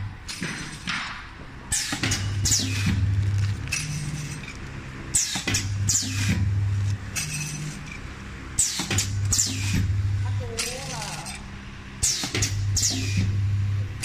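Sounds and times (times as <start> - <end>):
packing machine motor hum: 0.0 - 14.0.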